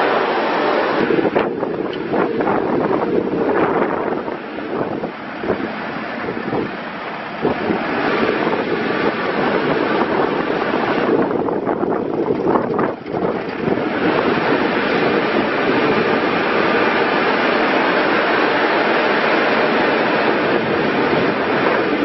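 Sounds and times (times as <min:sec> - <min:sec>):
diesel engine running: 0:00.0 - 0:22.0
wind buffeting microphone: 0:00.0 - 0:22.0.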